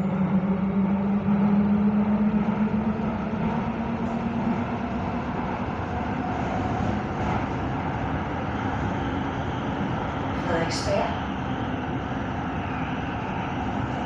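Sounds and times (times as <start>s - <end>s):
low motor hum: 0.0s - 14.0s
train rumbling through tunnel: 0.0s - 14.0s.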